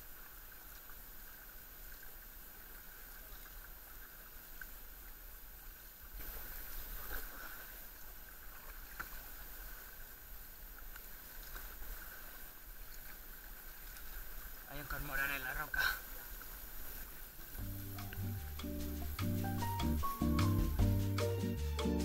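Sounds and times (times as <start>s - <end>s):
water lapping at hull: 0.0s - 19.5s
paddle splashes: 0.0s - 20.9s.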